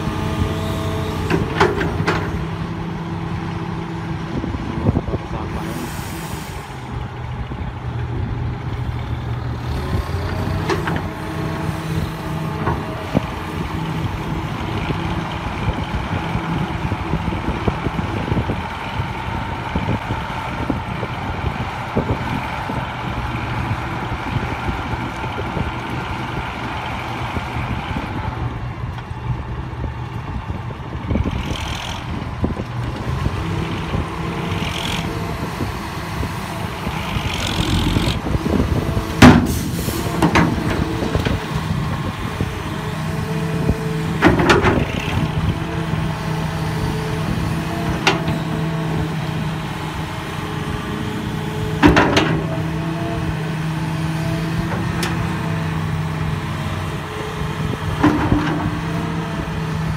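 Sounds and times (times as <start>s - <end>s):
truck dumping soil and rock: 0.0s - 3.5s, 8.8s - 26.7s, 32.5s - 59.9s
heavy diesel engines running: 0.0s - 59.9s.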